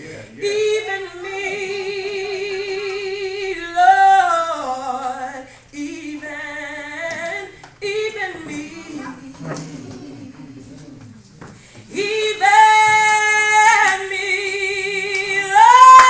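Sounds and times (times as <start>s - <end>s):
woman singing gospel solo: 0.4s - 11.0s, 11.6s - 16.0s.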